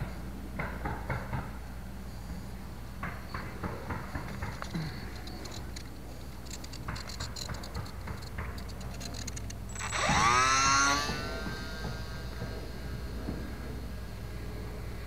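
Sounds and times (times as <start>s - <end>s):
electric motor and propeller whine: 1.6s - 15.0s.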